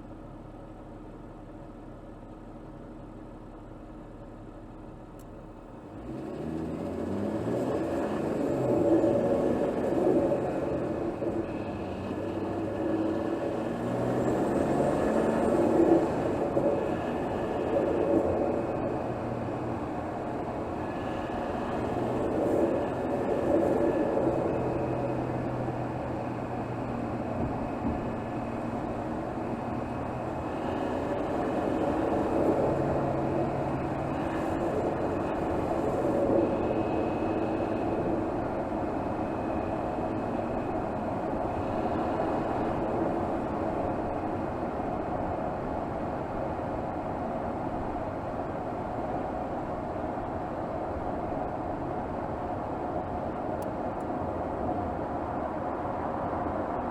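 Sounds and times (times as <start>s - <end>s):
car engine running at low revs: 0.0s - 56.9s.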